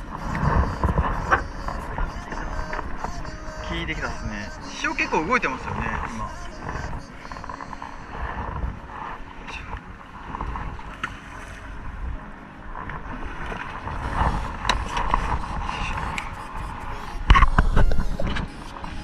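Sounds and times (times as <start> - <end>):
water noise: 0.0 - 19.0
wind buffeting microphone: 0.0 - 19.0.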